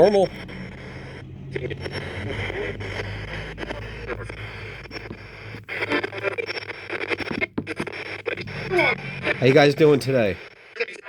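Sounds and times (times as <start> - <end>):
choppy radio static: 0.0 - 10.6
radio voices: 0.0 - 10.6
steady low hum: 0.0 - 10.8.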